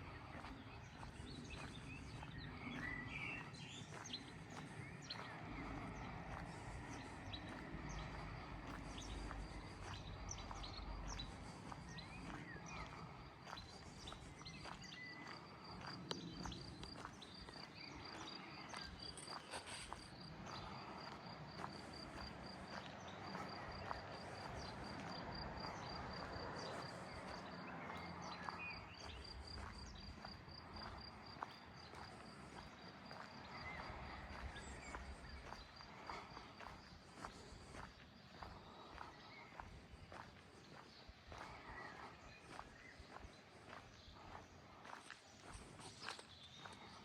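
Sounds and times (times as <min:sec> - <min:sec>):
footsteps outdoors: 0:00.0 - 0:47.0.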